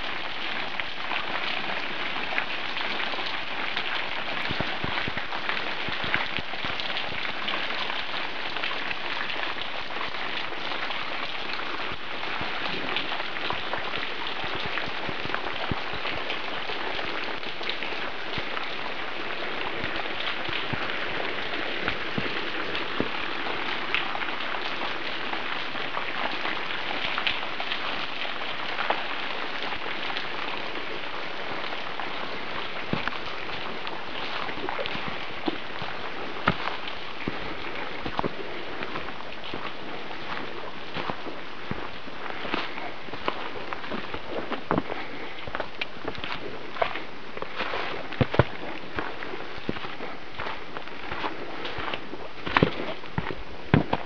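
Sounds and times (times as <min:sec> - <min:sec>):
falling water dripping: 0:00.0 - 0:54.0.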